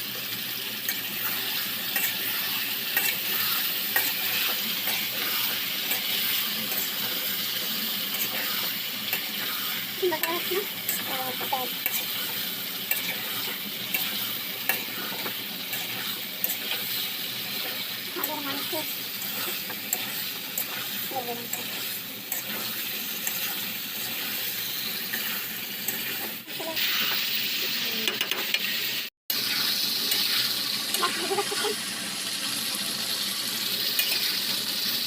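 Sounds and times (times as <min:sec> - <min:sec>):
chicken sizzling in a pan: 0:00.0 - 0:35.0.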